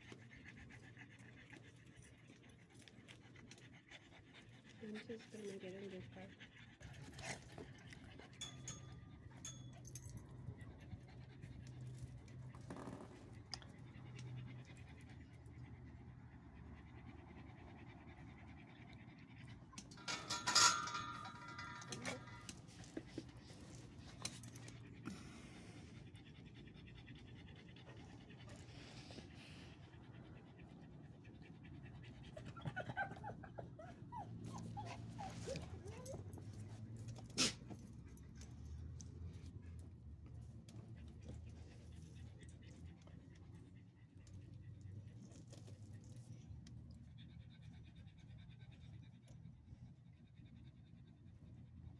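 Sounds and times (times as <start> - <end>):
small dog panting: 0.0 - 51.9.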